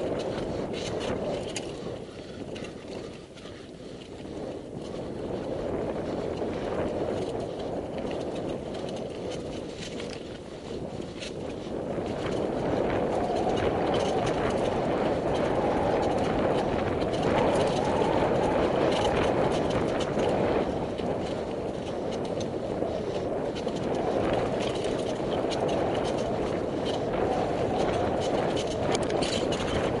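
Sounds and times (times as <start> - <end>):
bike chain and frame rattling: 0.0 - 30.0
bike tyres rolling on dirt: 0.0 - 30.0.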